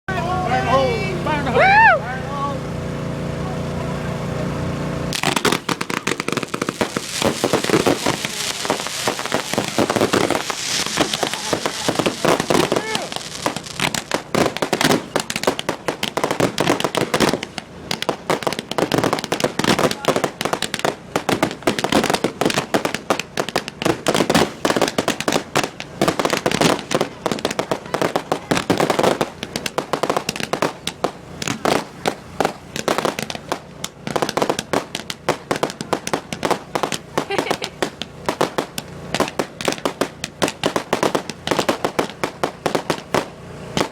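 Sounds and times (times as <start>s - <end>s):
fireworks bangs and crackling: 0.1s - 43.9s.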